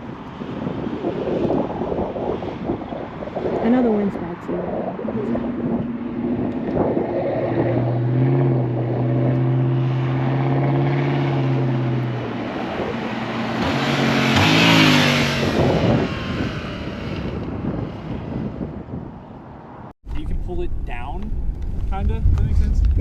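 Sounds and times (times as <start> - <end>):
wind noise rushing: 0.0 - 23.0
motorcycle engine revving: 0.6 - 19.0.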